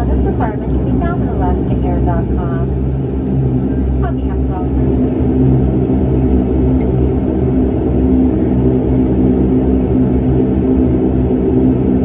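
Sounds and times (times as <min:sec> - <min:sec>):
airliner engines idling: 0:00.0 - 0:12.0.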